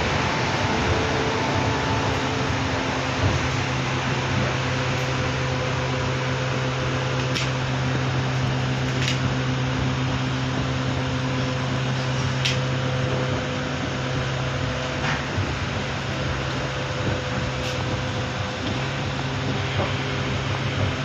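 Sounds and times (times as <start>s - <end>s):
electric hum: 0.0s - 21.0s
electric train rushing: 0.0s - 21.0s.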